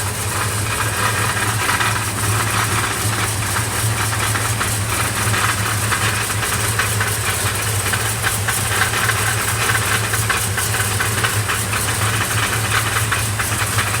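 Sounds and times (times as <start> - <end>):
car engine idling with clatter: 0.0 - 14.0.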